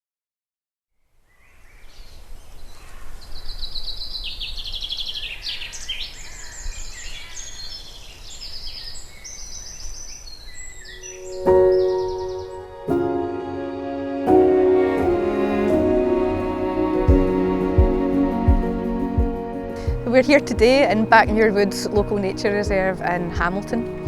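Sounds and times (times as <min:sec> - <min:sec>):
songbirds singing: 0:01.3 - 0:12.8, 0:16.2 - 0:24.0.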